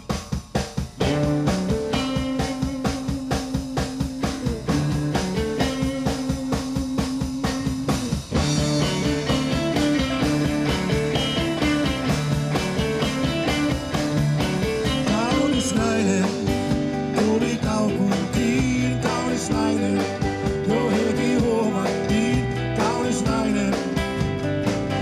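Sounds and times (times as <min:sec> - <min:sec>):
live band with guitars: 0:00.0 - 0:25.0.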